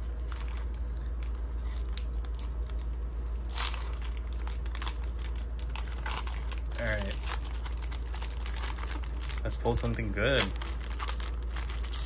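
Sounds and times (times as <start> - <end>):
foil pack crinkling and tearing: 0.0 - 12.0
steady low hum: 0.0 - 12.0.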